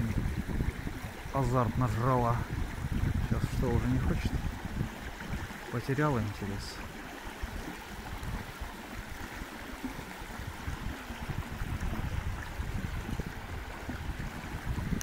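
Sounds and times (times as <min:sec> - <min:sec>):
stream water flowing: 0:00.0 - 0:15.0
wind buffeting microphone: 0:00.0 - 0:15.0.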